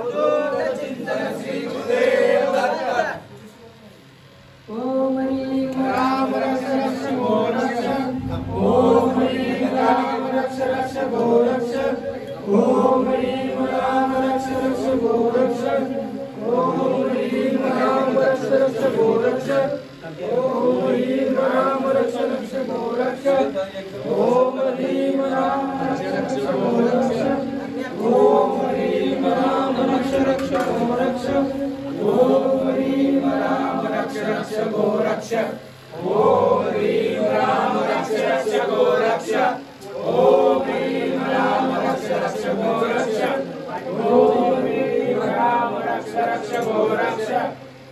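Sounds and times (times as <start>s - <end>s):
group chanting: 0.0s - 3.2s, 4.7s - 47.9s.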